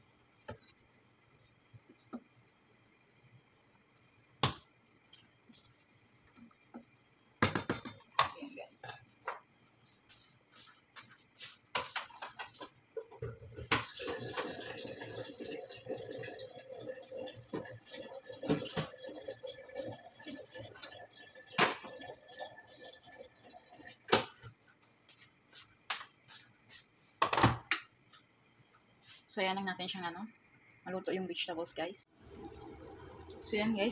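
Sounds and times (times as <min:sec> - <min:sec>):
stew bubbling in a pot: 0:00.0 - 0:27.2, 0:30.4 - 0:33.9.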